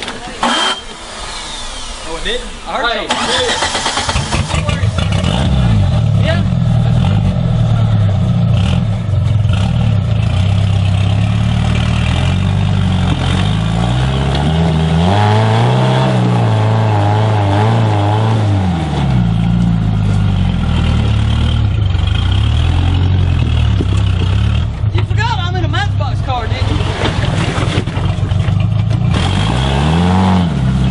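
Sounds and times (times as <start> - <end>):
off-road vehicle engine revving: 0.0 - 30.9.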